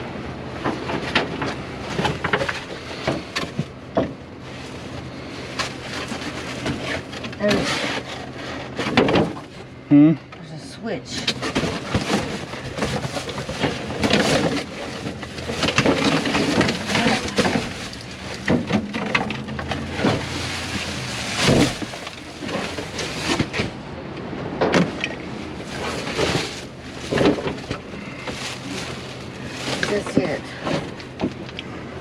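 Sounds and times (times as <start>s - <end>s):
steady low hum: 0.0s - 32.0s
knocks clatters and rustles: 0.5s - 9.7s, 11.1s - 23.8s, 24.5s - 32.0s.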